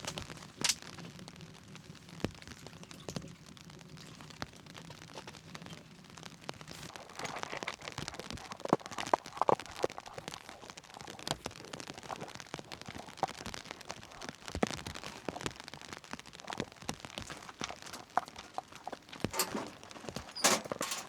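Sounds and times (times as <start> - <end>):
heavy rain on a tent: 0.0 - 21.0.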